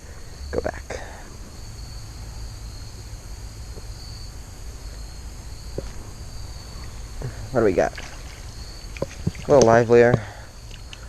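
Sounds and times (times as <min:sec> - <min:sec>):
insect chorus buzzing: 0:00.0 - 0:11.0
low steady rumble: 0:00.0 - 0:11.0.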